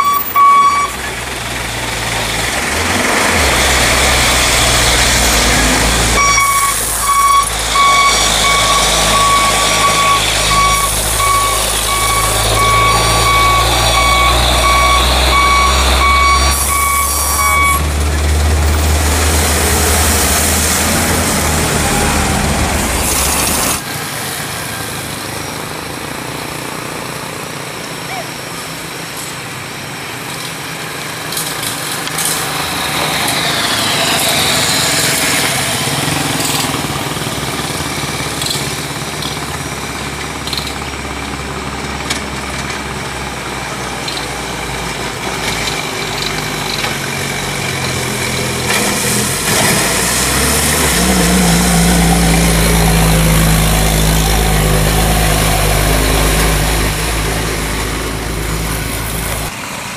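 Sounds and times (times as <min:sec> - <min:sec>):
diesel truck engine passing: 0:00.0 - 0:30.0, 0:30.8 - 0:59.9.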